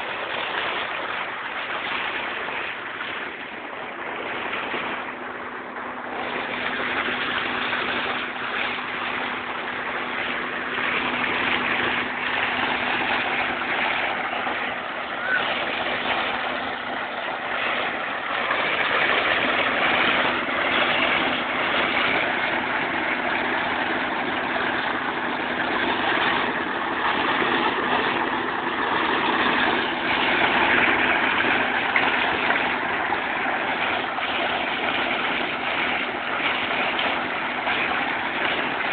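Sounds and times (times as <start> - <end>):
pump engine humming: 0.0 - 38.9
water gushing from pipe: 0.0 - 38.9.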